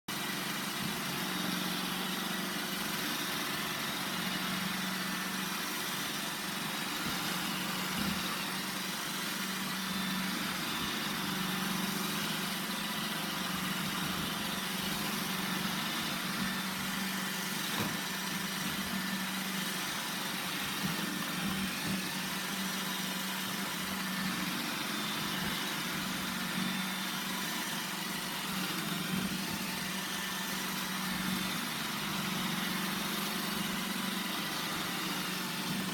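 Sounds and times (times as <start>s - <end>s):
robot vacuum motor hum: 0.1s - 35.9s.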